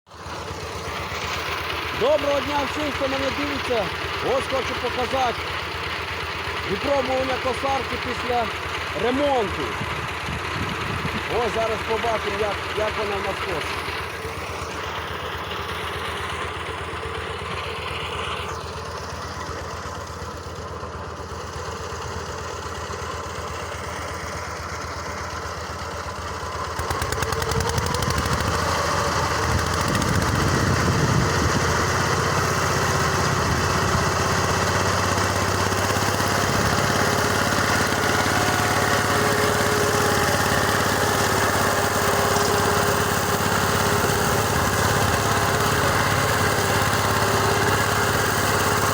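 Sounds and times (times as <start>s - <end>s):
rotary mower engine running: 0.1s - 48.9s.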